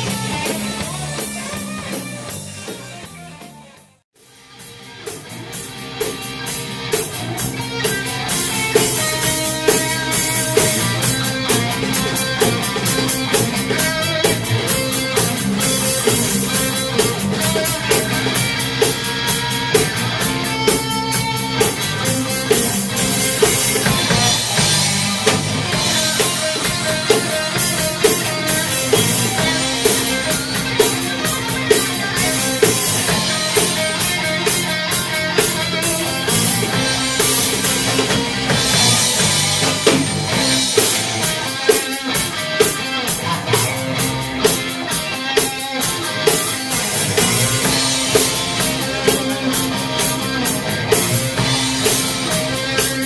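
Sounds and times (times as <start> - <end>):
drum kit beat: 0.0 - 53.0
electric guitar: 0.0 - 53.0.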